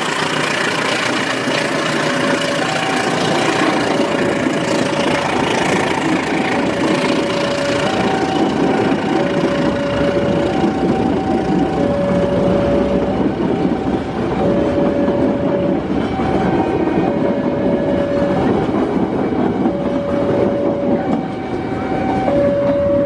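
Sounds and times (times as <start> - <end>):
crossing warning alarm two-tone: 0.0 - 23.0
train rumble and wheel clatter: 0.0 - 23.0.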